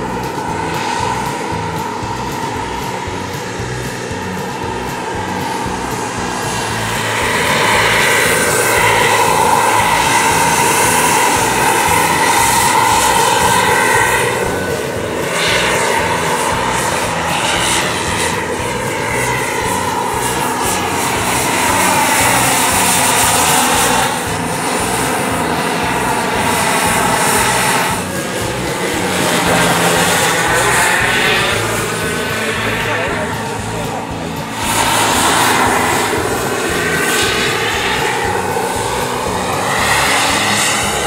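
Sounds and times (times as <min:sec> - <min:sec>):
model helicopter turbine whine: 0:00.0 - 0:41.0
rushing noise: 0:00.0 - 0:41.0.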